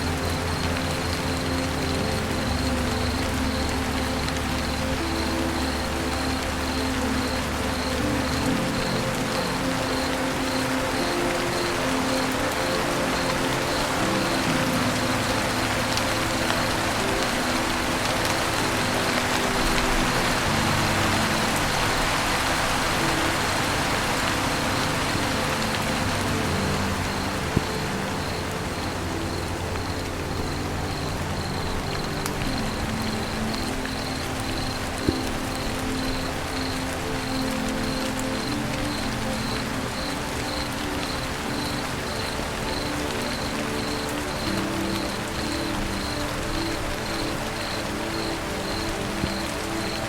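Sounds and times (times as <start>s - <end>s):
rain falling on a roof: 0.0s - 50.0s
soft sustained music notes: 0.0s - 50.0s.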